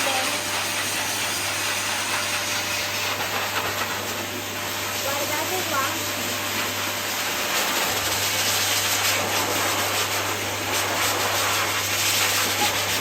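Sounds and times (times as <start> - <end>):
blow dryer running: 0.0 - 13.0.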